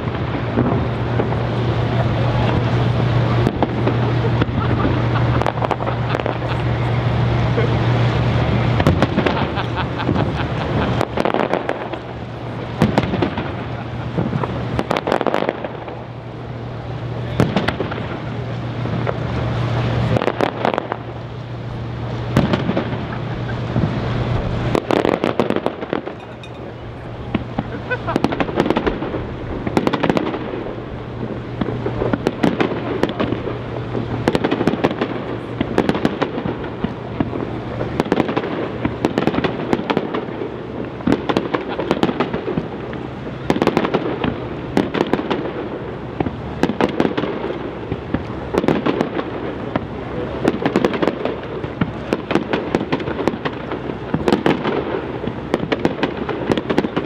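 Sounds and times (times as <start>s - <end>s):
crackling firework stars: 0.0s - 57.0s.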